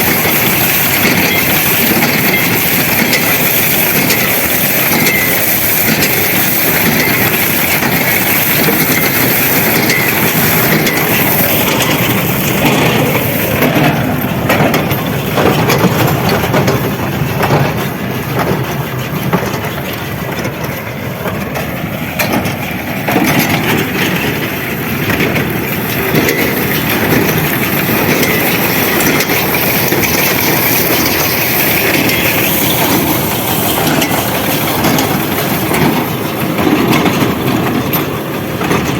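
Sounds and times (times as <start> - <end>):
machinery clatter and knocks: 0.0 - 38.9
tractor engine running: 0.0 - 38.9.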